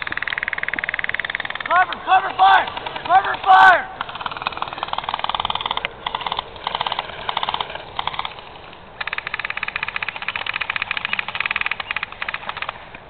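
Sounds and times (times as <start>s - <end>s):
airsoft guns firing full auto: 0.0s - 12.9s.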